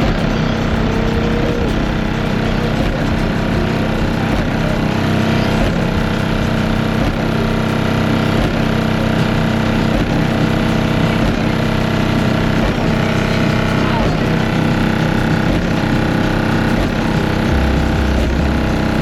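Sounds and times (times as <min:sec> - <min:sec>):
car audio bass drone: 0:00.0 - 0:19.0.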